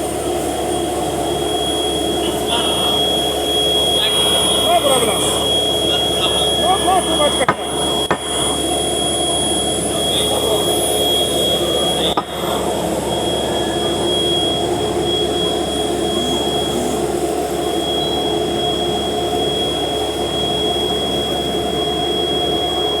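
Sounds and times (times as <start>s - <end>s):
heavy machinery drone: 0.0s - 23.0s
high whine: 0.0s - 23.0s.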